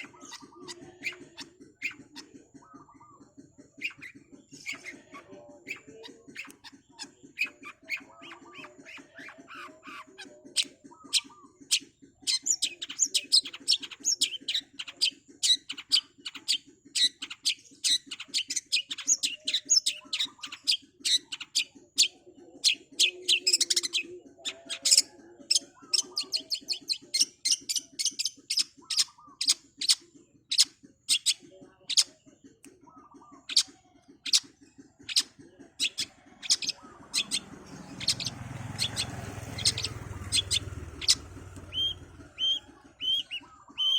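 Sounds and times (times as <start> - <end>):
bird singing sharp chips and trills: 5.7 - 43.9.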